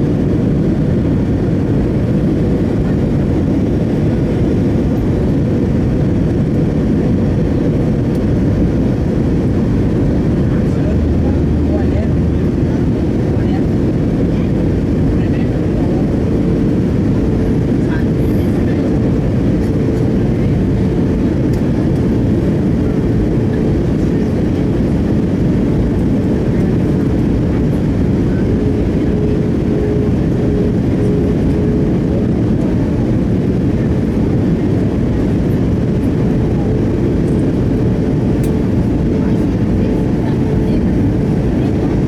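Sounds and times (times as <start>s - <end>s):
airliner cabin rumble: 0.0s - 42.0s.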